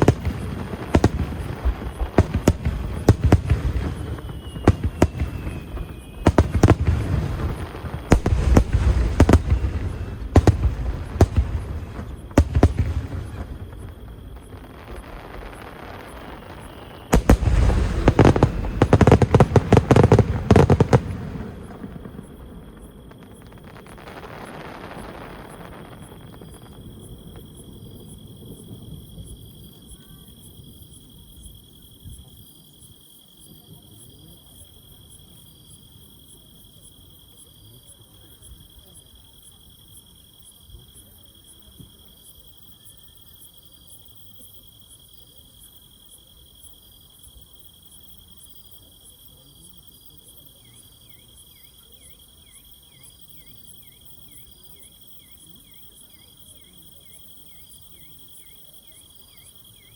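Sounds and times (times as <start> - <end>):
insect rapid chirps: 0.0 - 59.9
insects trilling: 0.0 - 59.9.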